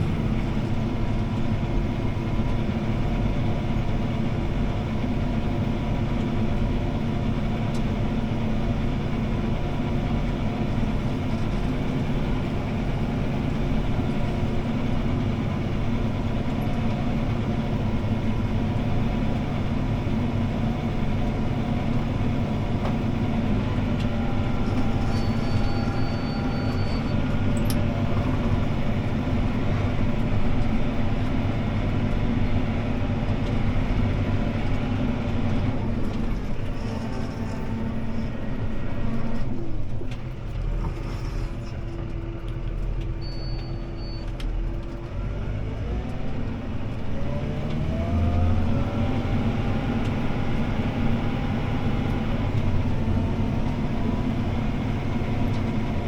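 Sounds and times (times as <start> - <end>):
tractor engine drone: 0.0 - 56.0.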